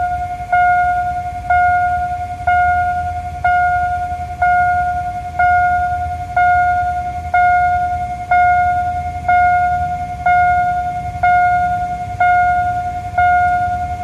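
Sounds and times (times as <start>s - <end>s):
level crossing bell ringing: 0.0s - 14.0s.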